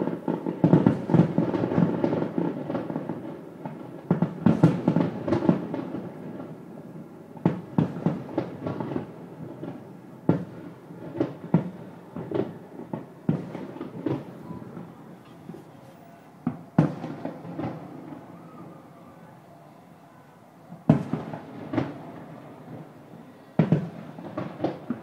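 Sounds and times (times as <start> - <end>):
distant fireworks booming: 0.0 - 25.0.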